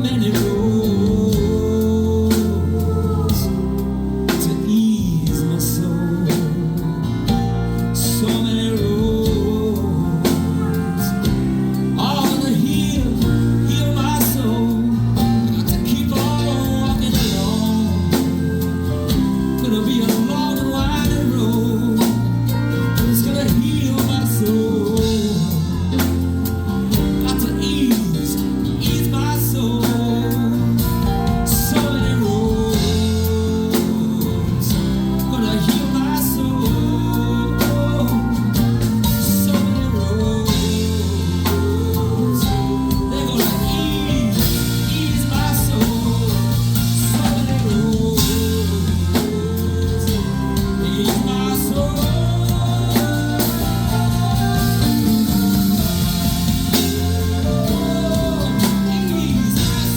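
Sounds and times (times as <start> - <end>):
electric guitar: 0.0 - 59.9
live rock band playing: 0.0 - 59.9.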